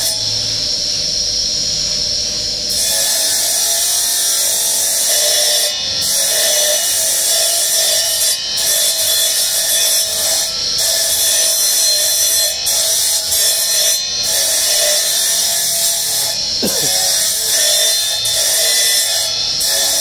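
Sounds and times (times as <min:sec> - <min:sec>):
stone-cutting disc grinding marble: 0:02.6 - 0:20.0.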